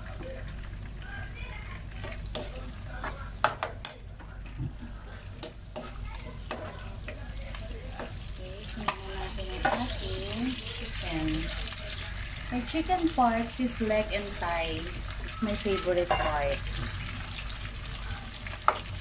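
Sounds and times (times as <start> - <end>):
onions frying in hot oil: 0.0 - 19.0.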